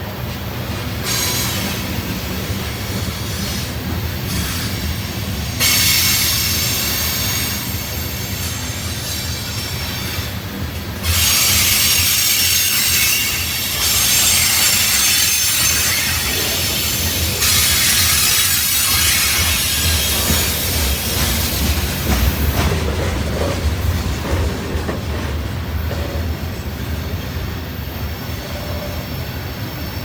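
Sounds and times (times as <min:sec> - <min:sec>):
freight train cars rumbling past: 0:00.0 - 0:30.0.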